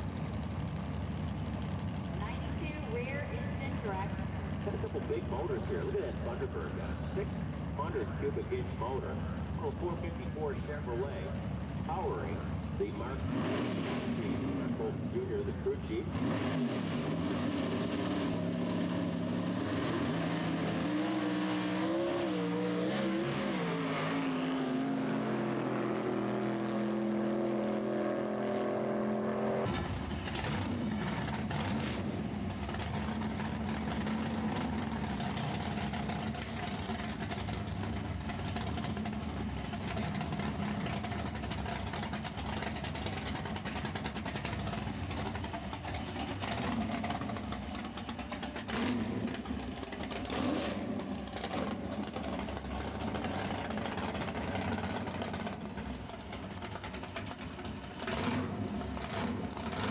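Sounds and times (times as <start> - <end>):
race car engine running: 0.0 - 59.9.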